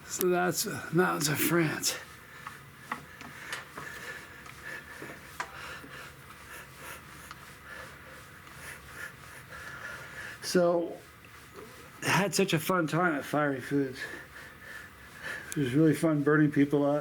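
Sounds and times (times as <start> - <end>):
exercise bike hum: 0.0 - 17.0.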